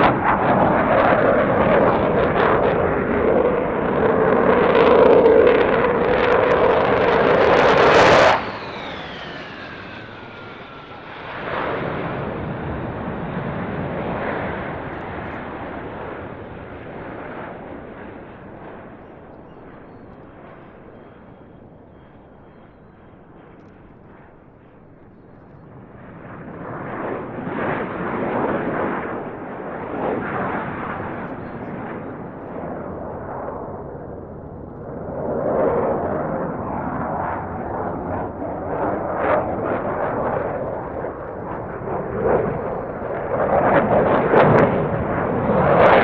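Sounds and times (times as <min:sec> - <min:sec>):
fighter jet low pass: 0:00.0 - 0:46.0.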